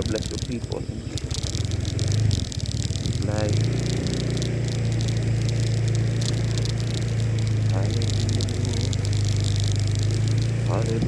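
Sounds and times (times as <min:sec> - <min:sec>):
vehicle engine running: 0:00.0 - 0:11.0
wind and road hiss: 0:00.0 - 0:11.0.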